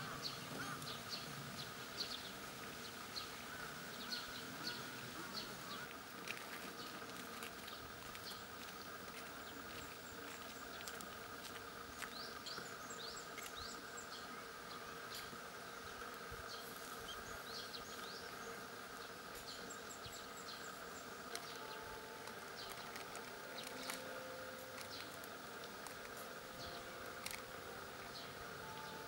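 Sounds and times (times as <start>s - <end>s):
faint steady hum: 0.0s - 29.0s
small birds chirping: 0.0s - 29.0s.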